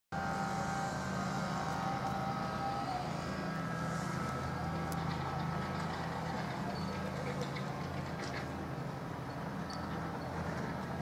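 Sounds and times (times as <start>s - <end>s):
distant engines humming: 0.2s - 11.0s.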